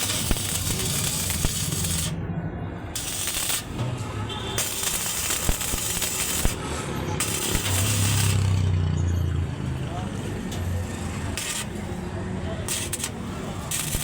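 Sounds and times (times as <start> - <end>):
arc welding crackling and hissing: 0.0 - 2.2, 3.0 - 8.8, 10.7 - 14.0.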